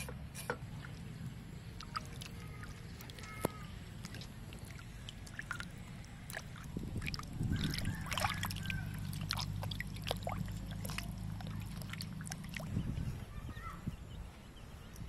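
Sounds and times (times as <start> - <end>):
water sloshing in metal basin: 0.0 - 13.0
low steady hum: 0.0 - 15.0.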